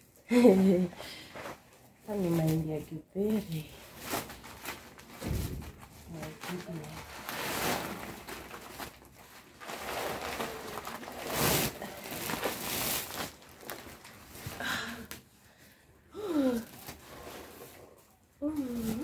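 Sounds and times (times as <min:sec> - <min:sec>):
plastic sack rustling and crinkling: 0:00.3 - 0:15.3, 0:16.3 - 0:19.0.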